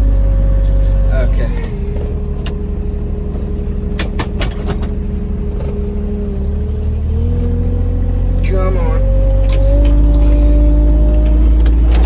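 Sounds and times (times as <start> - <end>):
vehicle engine rumble with whine: 0.0 - 12.0.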